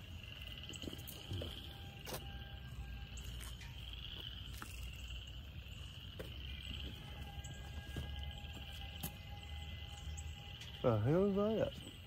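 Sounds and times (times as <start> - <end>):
frogs calling in chorus: 0.0 - 12.0.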